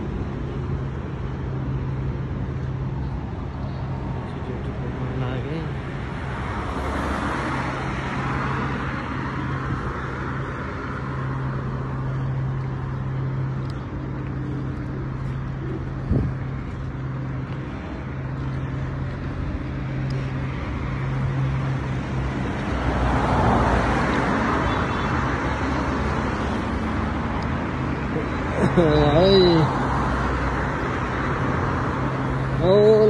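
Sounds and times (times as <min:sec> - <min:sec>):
cars passing: 0:00.0 - 0:33.0
low traffic hum: 0:00.0 - 0:33.0.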